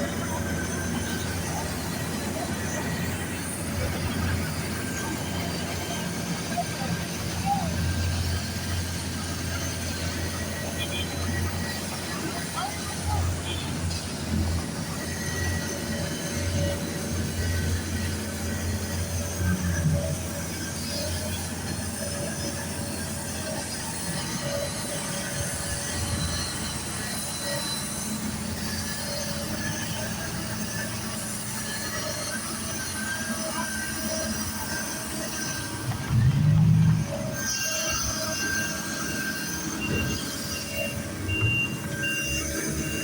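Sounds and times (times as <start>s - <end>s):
heavy machinery rumbling: 0.0s - 43.0s
high-pitched metallic squealing: 0.0s - 43.0s.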